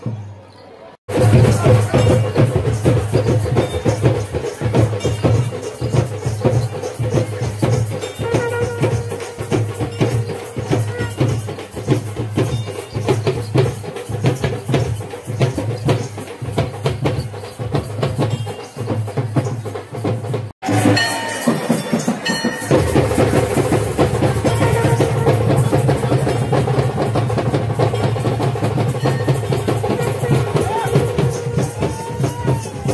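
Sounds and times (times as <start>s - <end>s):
fast dense drumming: 1.1s - 32.9s.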